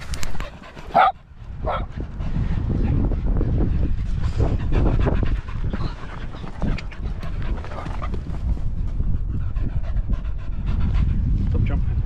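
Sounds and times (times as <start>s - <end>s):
dogs panting: 0.0s - 11.4s
steady low rumble: 0.0s - 12.0s.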